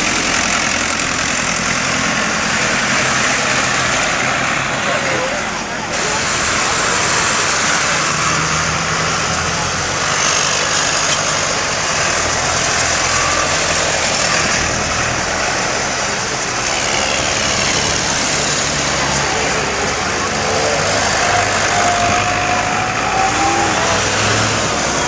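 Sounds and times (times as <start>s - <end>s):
tractor engines running: 0.0s - 25.0s.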